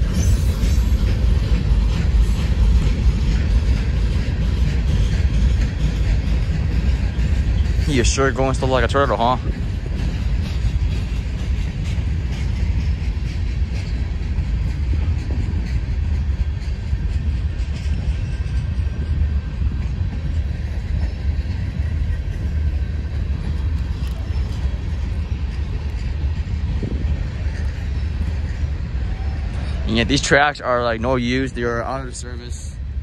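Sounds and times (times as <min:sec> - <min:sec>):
freight train rumbling on rails: 0:00.0 - 0:33.0.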